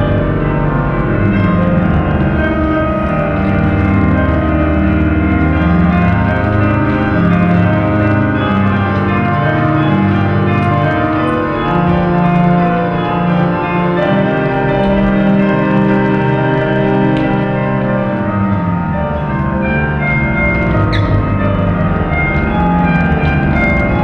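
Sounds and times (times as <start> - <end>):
slow organ-like music: 0.0 - 24.0.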